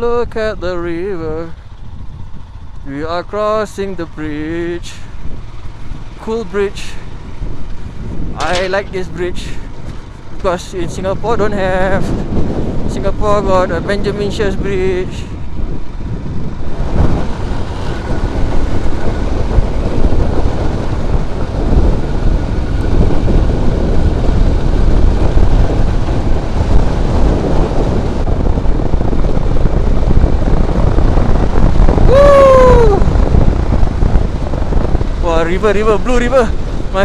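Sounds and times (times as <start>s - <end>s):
motorcycle engine drone: 0.0s - 37.0s
wind buffeting microphone: 0.0s - 37.0s.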